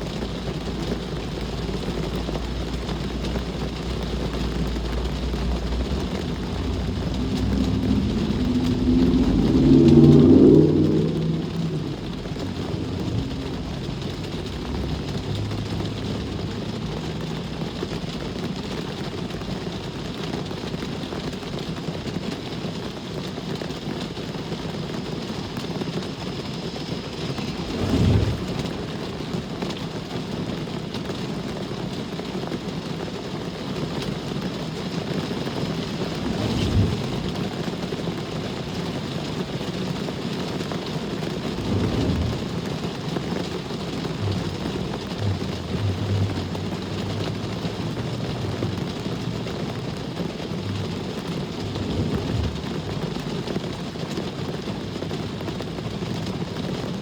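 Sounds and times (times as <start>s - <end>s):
low rumble: 0.0s - 20.2s, 24.0s - 30.0s, 34.0s - 39.2s, 40.7s - 56.5s
background traffic: 0.0s - 57.0s
rain hissing: 0.0s - 57.0s.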